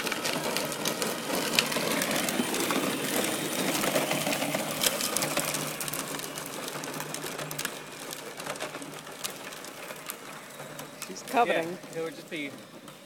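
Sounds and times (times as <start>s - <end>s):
toy tractor motor whirring: 0.0s - 13.0s.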